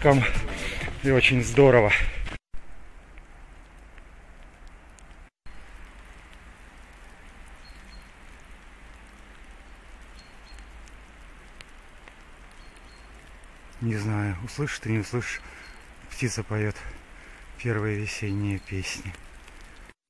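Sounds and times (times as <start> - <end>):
wet snow and rain falling: 0.0 - 20.0.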